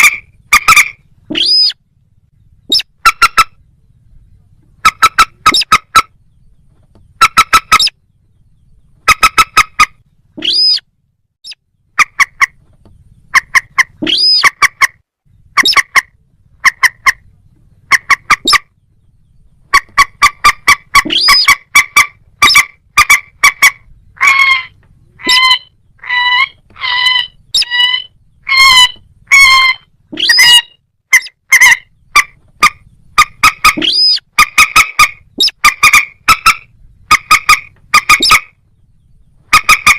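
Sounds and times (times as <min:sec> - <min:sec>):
rail bird calling: 0:00.0 - 0:39.9.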